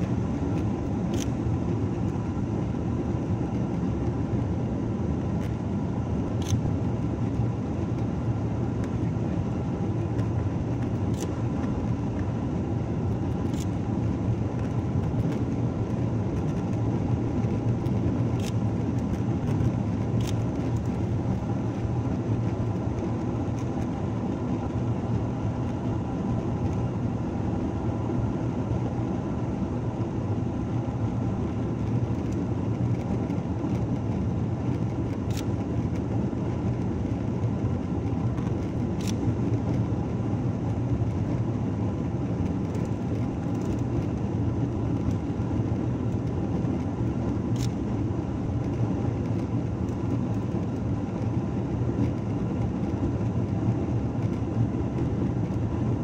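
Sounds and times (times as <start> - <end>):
faint steady hum: 0.0 - 56.0
jet engine cabin roar: 0.0 - 56.0.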